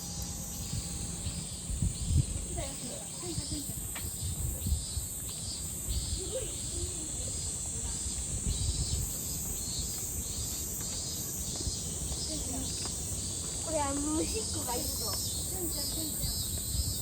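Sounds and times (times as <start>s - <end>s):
insects chirping rhythmically: 0.0s - 17.0s
insects droning: 0.0s - 17.0s.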